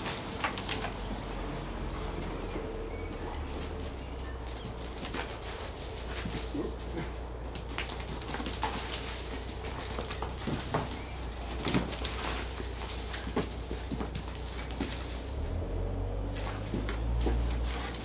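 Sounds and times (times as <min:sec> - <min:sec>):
dog paws thudding on dirt: 0:00.0 - 0:18.0.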